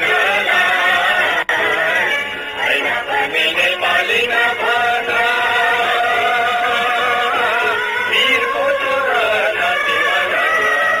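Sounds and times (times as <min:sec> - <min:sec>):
music with sung melody: 0:00.0 - 0:11.0.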